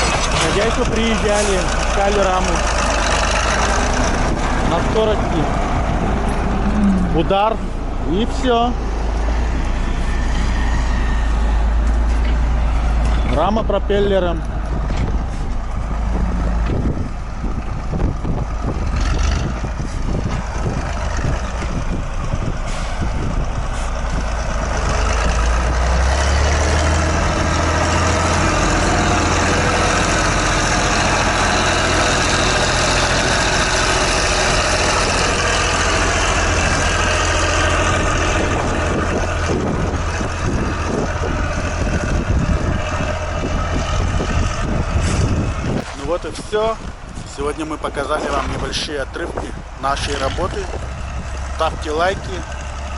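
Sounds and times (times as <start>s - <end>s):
engine whine: 0.0s - 52.9s
tractor diesel engine running: 0.0s - 52.9s.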